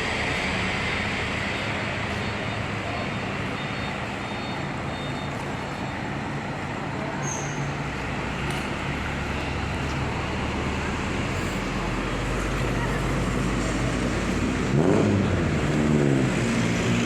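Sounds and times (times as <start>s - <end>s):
bus diesel engines idling: 0.0s - 17.0s.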